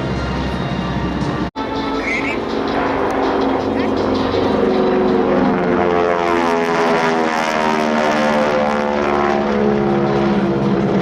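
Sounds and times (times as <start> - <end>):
propeller airplane fly-by: 0.0 - 11.0.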